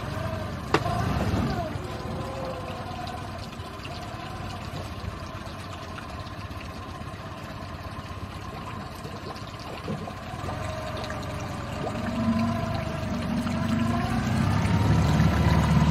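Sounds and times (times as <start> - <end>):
motor hum: 0.0 - 15.9
running water: 0.0 - 15.9.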